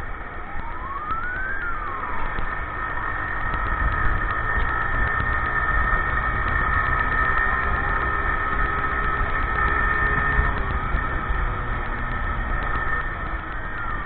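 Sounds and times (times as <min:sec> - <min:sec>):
motorcycle engine running: 0:01.0 - 0:14.0.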